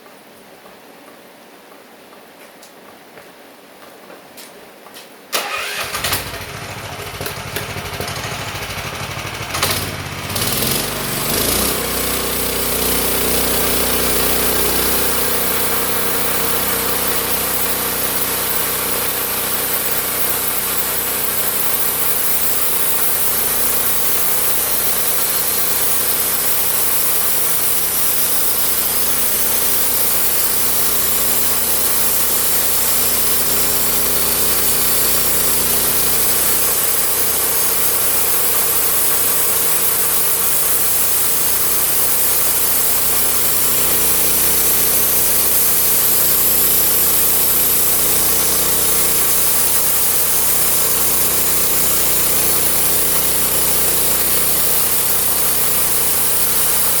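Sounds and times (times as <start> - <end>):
sawmill engine revving: 5.4 - 57.0.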